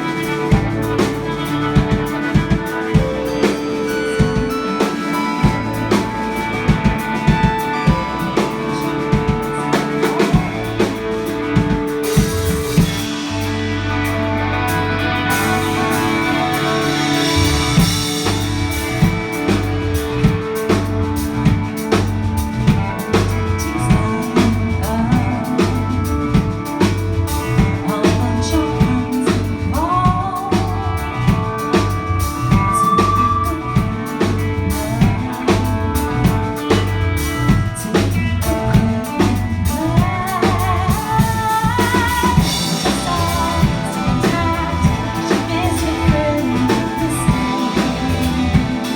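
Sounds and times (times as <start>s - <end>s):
bass line: 0.0s - 48.9s
drum kit steady beat: 0.0s - 48.9s
guitar chords: 0.0s - 48.9s.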